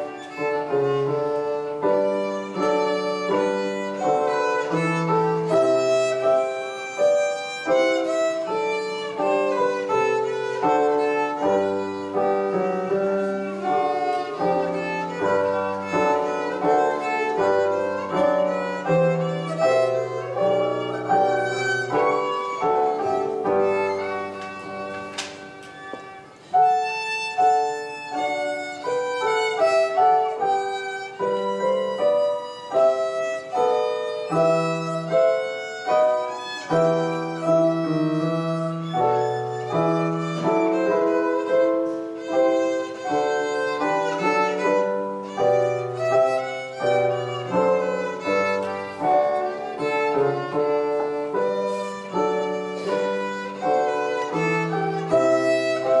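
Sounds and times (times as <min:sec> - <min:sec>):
digital piano accompaniment: 0:00.0 - 0:56.0
solo violin: 0:00.0 - 0:56.0.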